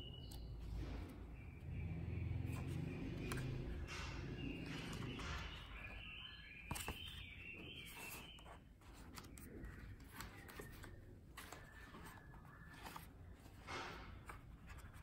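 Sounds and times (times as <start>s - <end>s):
notebook pages rustling: 2.4s - 15.0s.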